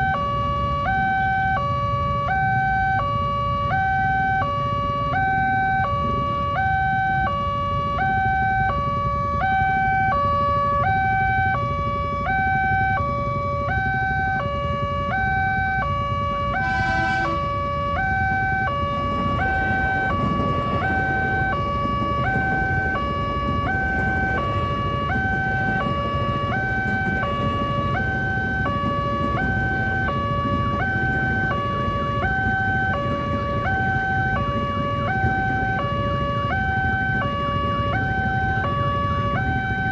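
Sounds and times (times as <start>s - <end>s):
low traffic rumble: 0.0s - 39.9s
two-tone crossing alarm: 0.0s - 39.9s.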